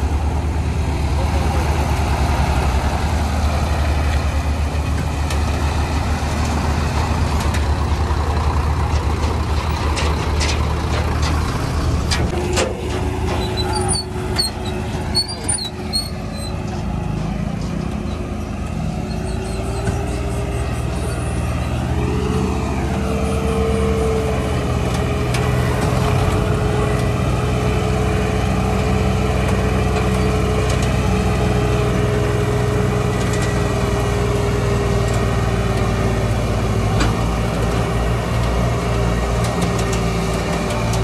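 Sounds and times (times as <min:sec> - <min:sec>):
tractor diesel engines running: 0:00.0 - 0:41.0.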